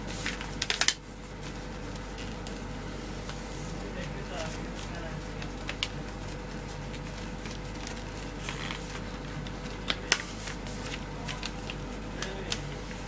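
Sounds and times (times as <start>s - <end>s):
steady low hum: 0.0s - 13.0s
paper rustling and crinkling: 0.1s - 13.0s.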